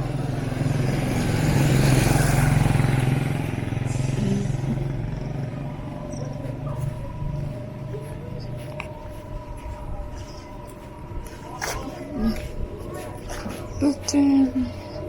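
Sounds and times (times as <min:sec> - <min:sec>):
motor vehicle passing by: 0:00.0 - 0:15.0.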